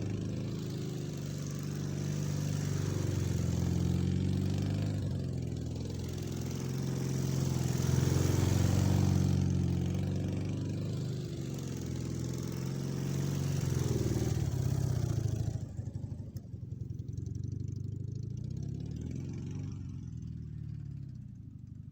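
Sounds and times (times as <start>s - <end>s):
motorcycle engine revving: 0.0s - 21.6s.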